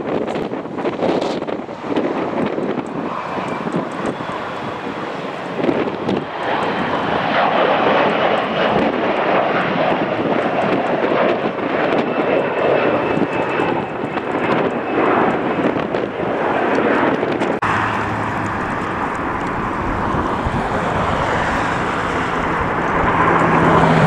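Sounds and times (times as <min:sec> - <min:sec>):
high turbine whine: 0:00.0 - 0:24.0
jet engines roaring: 0:00.0 - 0:24.0.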